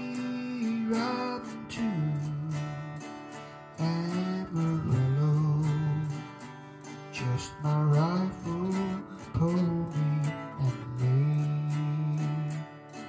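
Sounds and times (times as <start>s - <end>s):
acoustic guitar strumming: 0.0s - 13.0s
man singing slow country melody: 0.0s - 13.0s.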